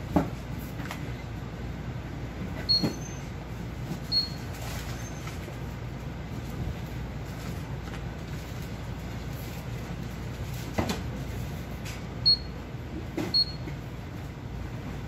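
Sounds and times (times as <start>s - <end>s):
low hum of shop ambience: 0.0s - 15.0s.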